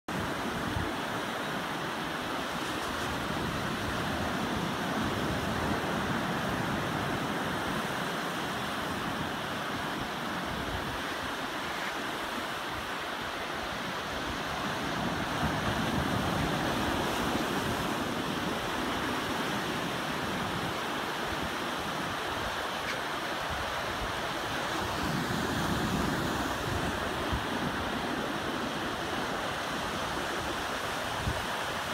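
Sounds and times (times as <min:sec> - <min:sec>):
surf washing up beach: 0:00.1 - 0:31.9.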